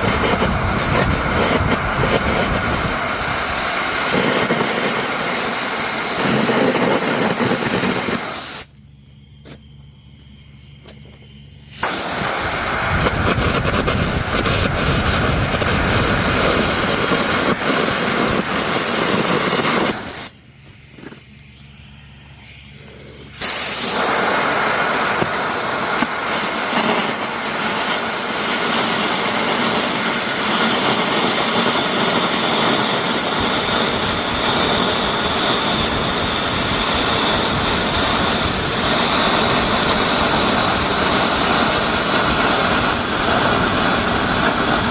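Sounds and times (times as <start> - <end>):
carbon arc crackling hiss: 0.0 - 8.8, 11.6 - 44.9.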